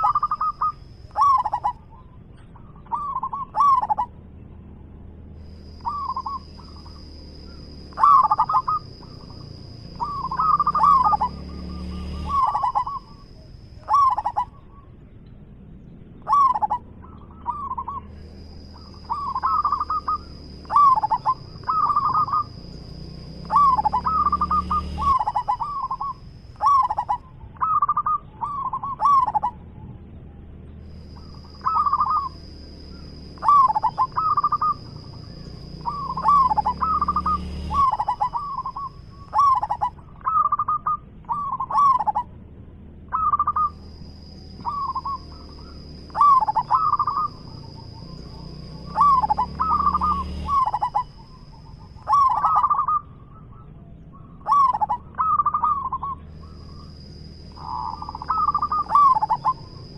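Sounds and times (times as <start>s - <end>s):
dove cooing: 0.0s - 4.3s, 5.4s - 30.0s, 30.8s - 42.4s, 43.0s - 59.9s.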